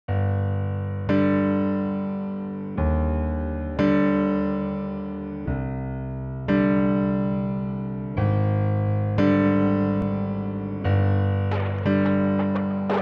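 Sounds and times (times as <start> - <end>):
electric piano chords: 0.1 - 13.0.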